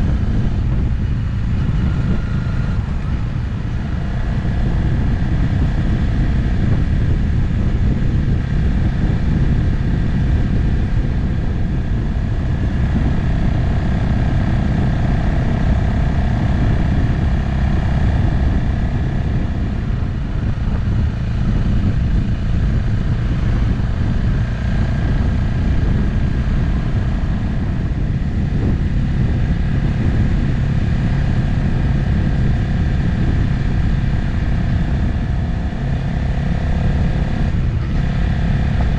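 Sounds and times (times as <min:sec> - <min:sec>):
motorcycle engine droning: 0:00.0 - 0:38.9
wind rushing on microphone: 0:00.0 - 0:38.9.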